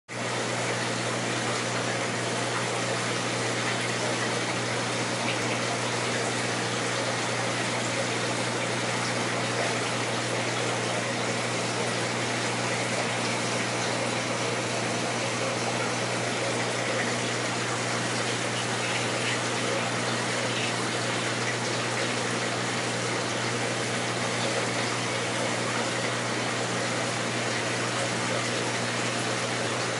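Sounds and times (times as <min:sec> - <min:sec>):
aquarium pump humming: 0:00.1 - 0:29.9.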